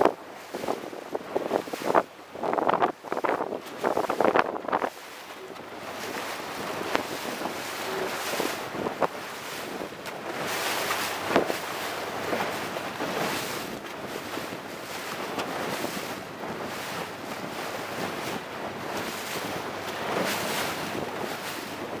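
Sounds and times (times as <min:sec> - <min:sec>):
hull slapping waves: 0:00.0 - 0:22.0
rushing water and spray: 0:00.0 - 0:22.0
wind buffeting microphone: 0:00.0 - 0:22.0.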